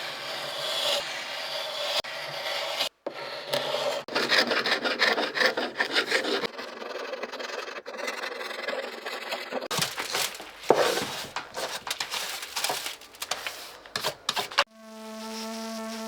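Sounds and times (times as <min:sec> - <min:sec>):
sanding wood by hand: 0:00.0 - 0:07.6, 0:08.2 - 0:14.7.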